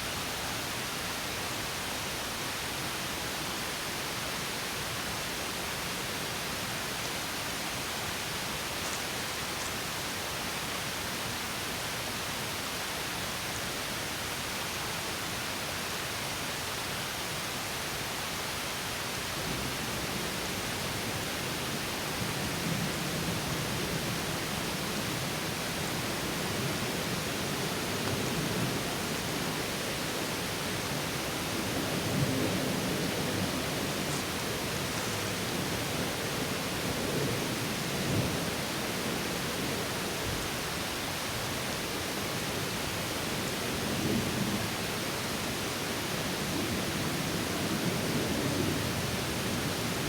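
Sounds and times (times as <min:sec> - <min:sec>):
small waterfall rushing: 0:00.0 - 0:50.0.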